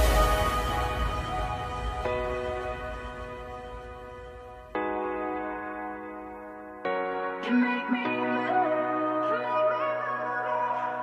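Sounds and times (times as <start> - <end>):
synth chords: 0.0 - 9.8.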